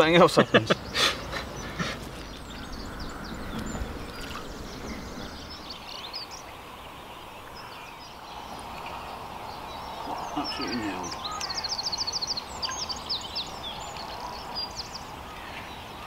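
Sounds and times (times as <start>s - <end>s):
birds chirping: 0.0s - 16.0s
outdoor background hiss: 0.0s - 16.0s.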